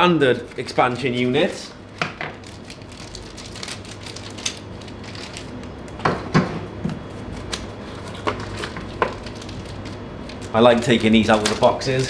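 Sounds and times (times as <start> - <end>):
steady low hum: 0.0 - 12.0
cardboard packaging crackling: 0.3 - 6.0, 7.2 - 12.0.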